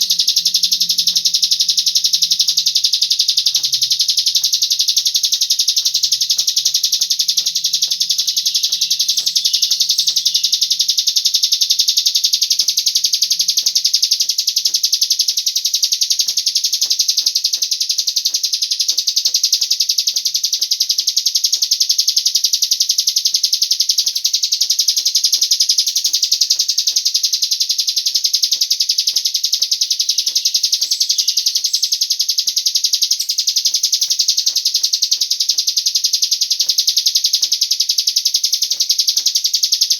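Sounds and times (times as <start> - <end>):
recorded bird song trill: 0.0 - 39.9.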